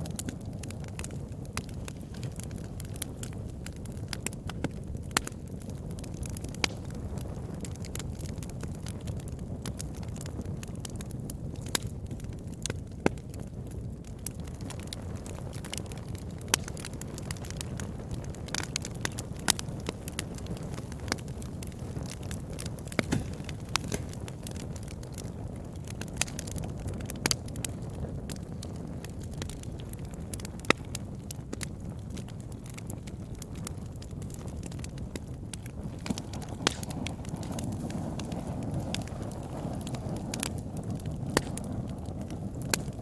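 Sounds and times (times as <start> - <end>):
campfire rumble: 0.0 - 43.0
wood crackling and popping: 0.0 - 43.0.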